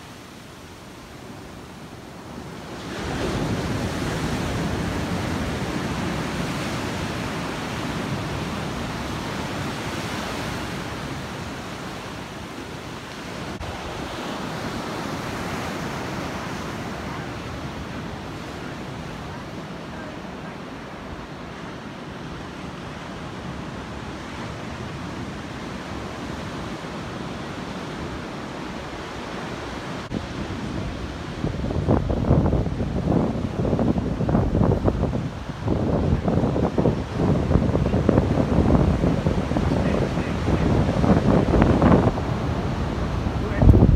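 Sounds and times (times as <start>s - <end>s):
waves breaking on beach: 0.0s - 43.9s
wind on microphone: 0.0s - 43.9s.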